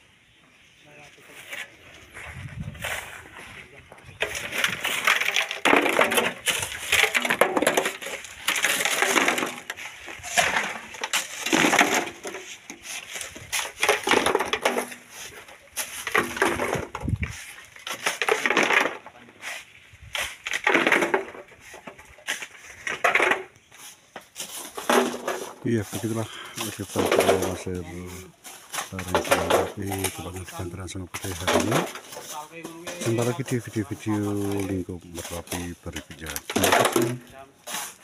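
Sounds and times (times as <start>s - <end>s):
shovel scraping gravel: 1.3s - 3.6s, 4.2s - 38.0s.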